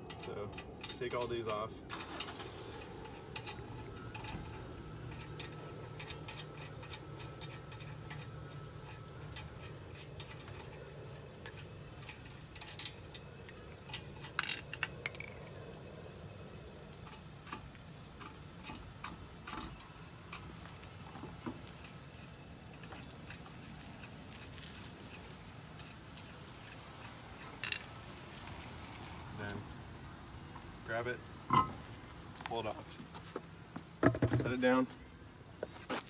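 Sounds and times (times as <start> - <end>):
lug nuts ticking and clicking: 0.0 - 36.0.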